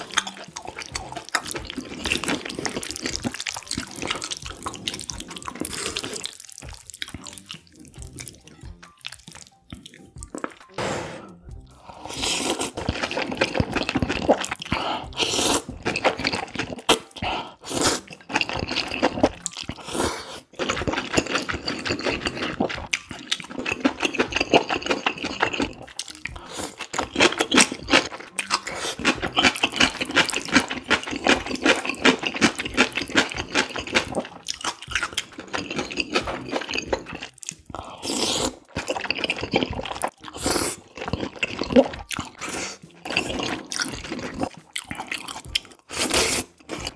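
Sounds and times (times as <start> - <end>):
slurping noodles: 0.0 - 8.4, 11.8 - 46.9
wet chewing: 0.0 - 10.8, 11.5 - 46.9.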